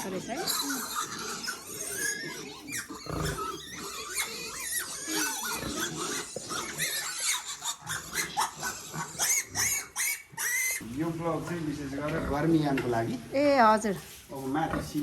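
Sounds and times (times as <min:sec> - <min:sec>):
pigs squealing and grunting: 0:00.0 - 0:11.0, 0:12.0 - 0:13.2.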